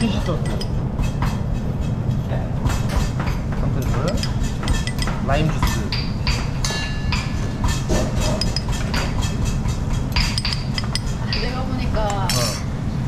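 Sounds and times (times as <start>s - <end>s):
metal spoons and dishes clinking: 0.0s - 12.7s.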